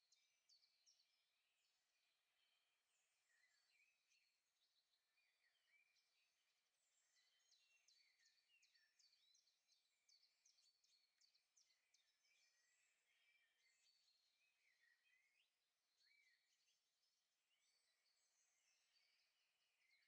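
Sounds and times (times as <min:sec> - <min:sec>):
faint birdsong: 0:00.0 - 0:20.0.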